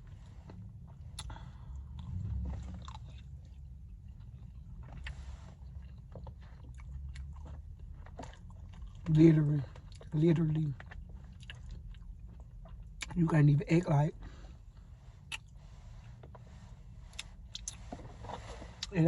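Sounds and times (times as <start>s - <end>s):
person chewing food: 0.0s - 13.2s, 14.2s - 16.4s, 17.1s - 19.0s.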